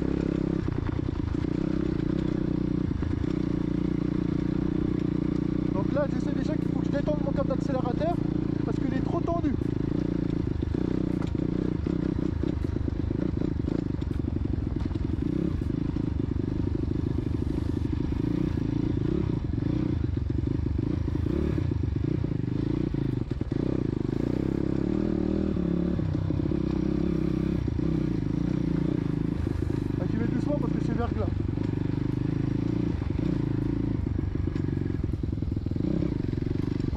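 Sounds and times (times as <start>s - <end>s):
pit bike engine at low revs: 0.0s - 36.9s.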